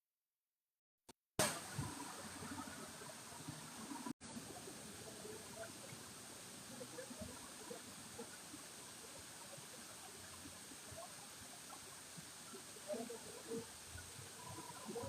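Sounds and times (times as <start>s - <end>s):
running water gurgling: 1.4s - 15.0s.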